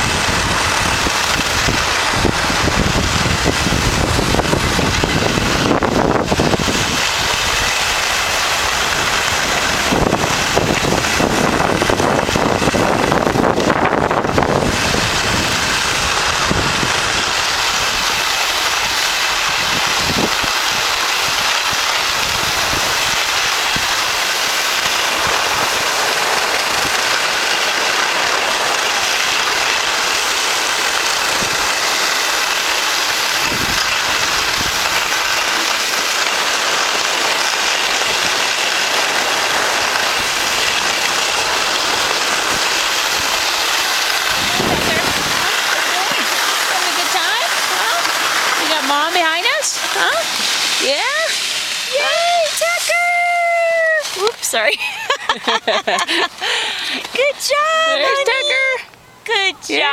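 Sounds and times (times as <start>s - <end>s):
skis sliding over packed snow: 0.0s - 58.8s
wind buffeting microphone: 0.0s - 58.8s.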